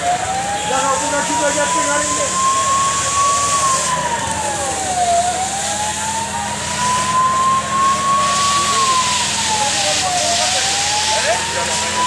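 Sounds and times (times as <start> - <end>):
fire engine siren wailing: 0.0 - 12.0.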